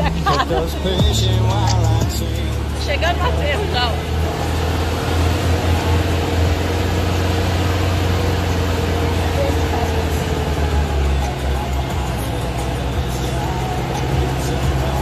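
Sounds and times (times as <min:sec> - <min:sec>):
driving noise on dirt track: 0:00.0 - 0:15.0
vehicle engine rumbling: 0:00.0 - 0:15.0.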